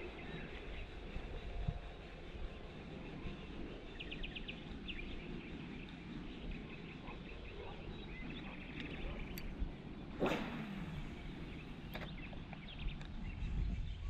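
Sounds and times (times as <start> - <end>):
bird chirping: 0.0 - 14.0
wind rumbling on microphone: 0.0 - 14.0.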